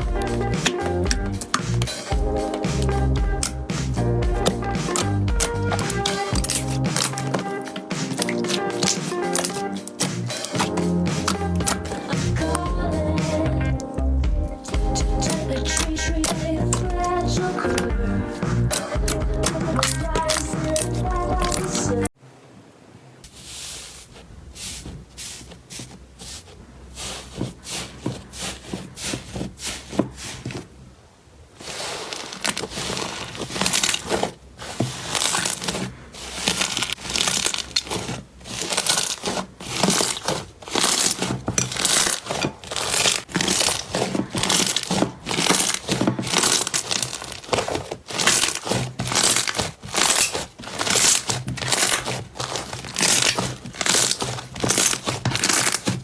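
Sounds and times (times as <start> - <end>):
slime crackling and popping: 0.0 - 12.6, 13.8 - 21.9, 31.6 - 56.0.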